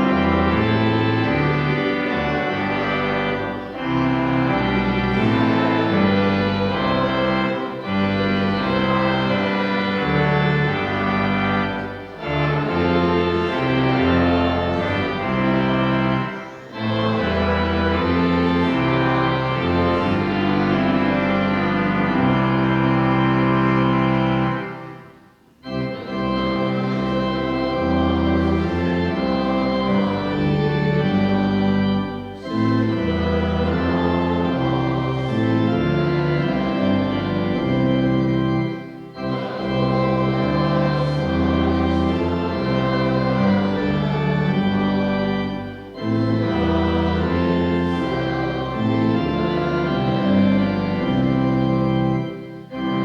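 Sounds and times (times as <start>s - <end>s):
church organ playing chords: 0.0s - 53.0s.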